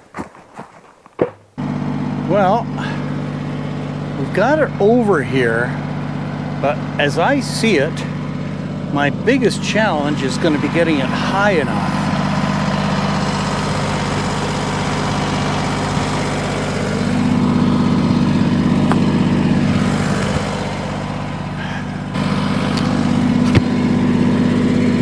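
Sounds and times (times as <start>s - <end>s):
tractor diesel engine idling: 1.6s - 25.0s.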